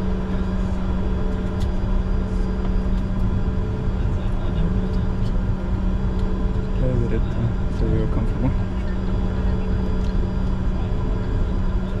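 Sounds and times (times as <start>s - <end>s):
jet engine hum in cockpit: 0.0s - 12.0s.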